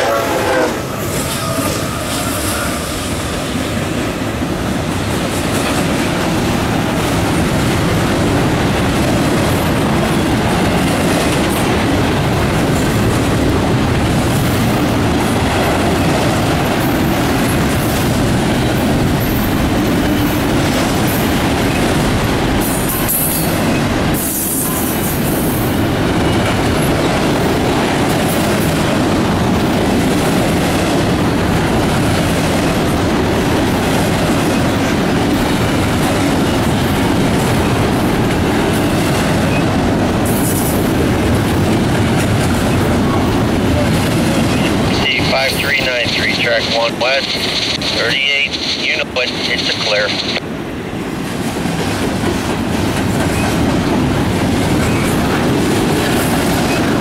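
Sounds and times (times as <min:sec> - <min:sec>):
steel train wheels on rails: 0:00.0 - 0:50.4, 0:51.2 - 0:57.0.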